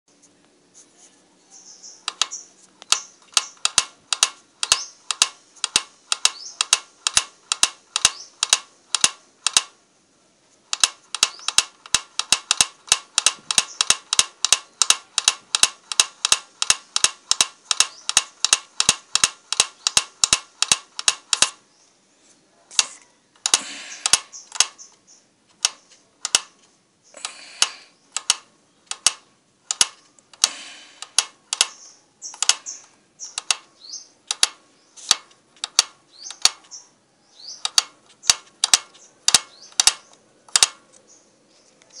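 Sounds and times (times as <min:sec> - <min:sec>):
sharp mechanical clicking: 0:02.0 - 0:09.8, 0:10.7 - 0:21.6, 0:22.7 - 0:36.8, 0:37.4 - 0:40.9.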